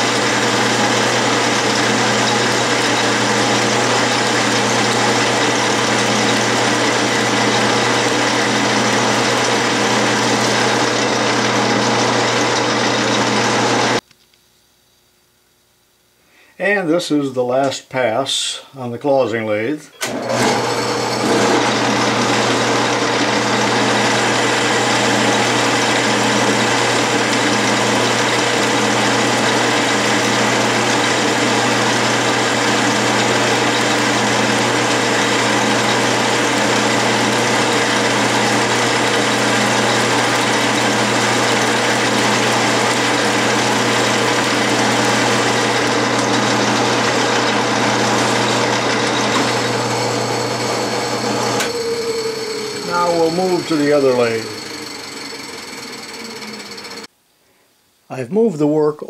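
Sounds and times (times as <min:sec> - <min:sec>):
lathe motor hum: 0:00.0 - 0:14.0, 0:20.0 - 0:57.1.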